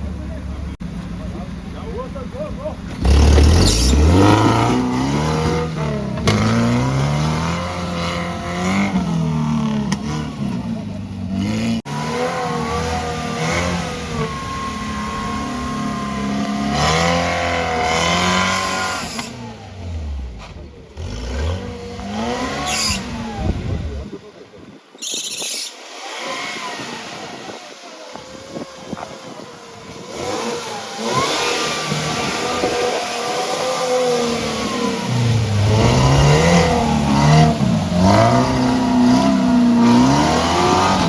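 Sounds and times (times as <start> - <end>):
vehicle engine revving hard: 2.9 - 24.1, 25.8 - 41.0.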